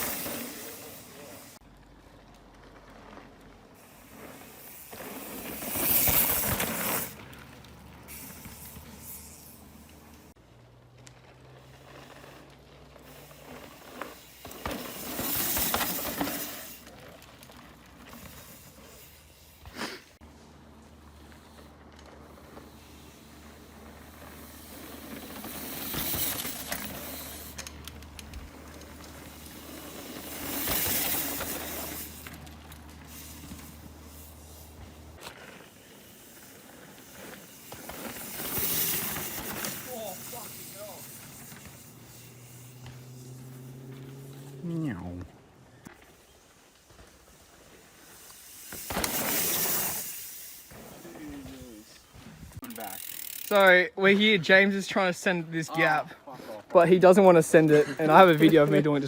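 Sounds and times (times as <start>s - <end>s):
bike tyres rushing on dirt: 0.0s - 59.0s
wind: 0.0s - 59.0s.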